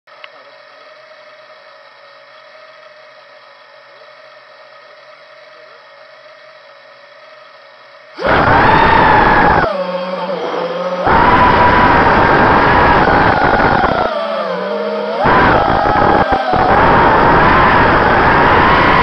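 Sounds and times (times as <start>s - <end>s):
drone motors whining: 0.1s - 19.0s.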